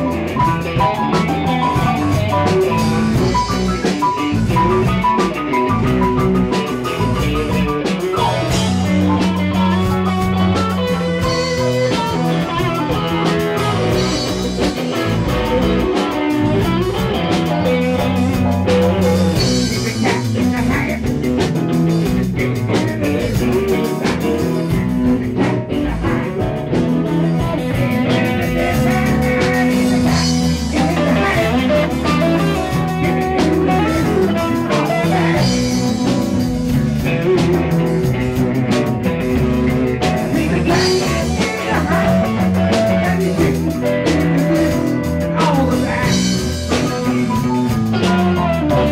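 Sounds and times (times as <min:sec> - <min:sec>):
drum kit: 0:00.0 - 0:48.9
electric guitars: 0:00.0 - 0:48.9
keyboard: 0:00.0 - 0:48.9.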